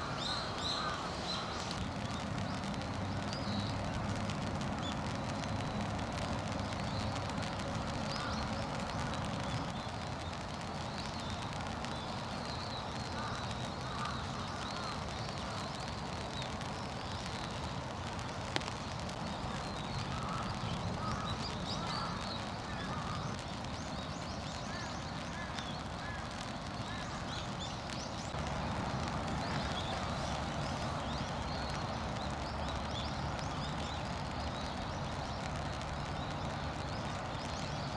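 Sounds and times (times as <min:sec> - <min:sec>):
distant bird calls: 0:00.0 - 0:37.9
low outdoor rumble: 0:00.0 - 0:37.9.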